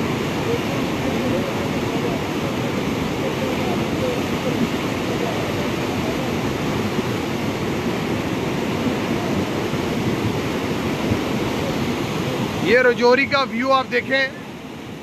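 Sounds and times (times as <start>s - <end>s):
floodwater rushing and churning: 0.0s - 15.0s.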